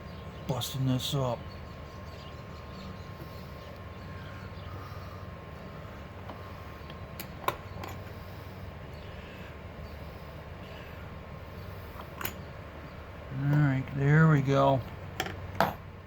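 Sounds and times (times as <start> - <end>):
low hum with high tone: 0.0 - 16.0.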